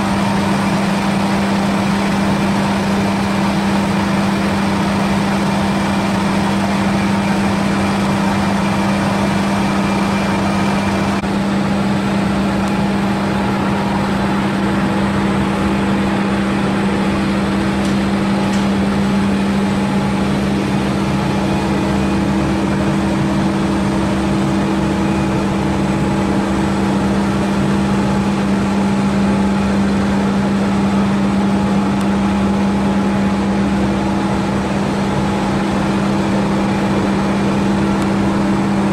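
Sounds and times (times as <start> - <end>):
machinery humming with hiss: 0.0 - 38.9.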